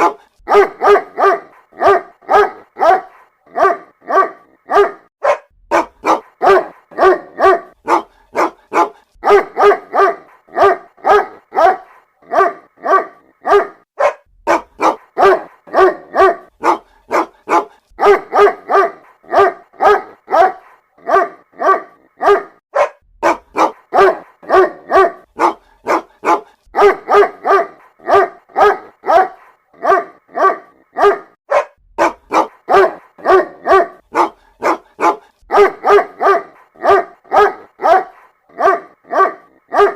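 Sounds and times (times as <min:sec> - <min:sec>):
dog barking rapidly: 0:00.0 - 0:39.9.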